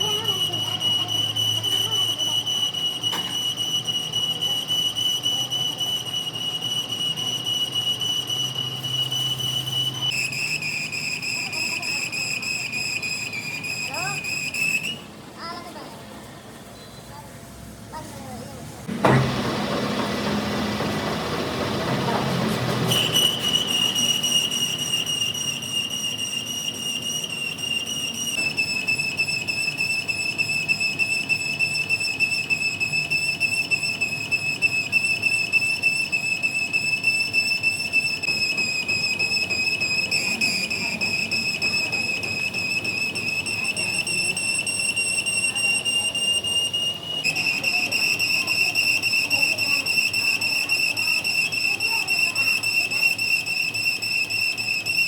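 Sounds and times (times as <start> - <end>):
machine tool whining on steel: 0.0 - 15.1, 18.8 - 55.0.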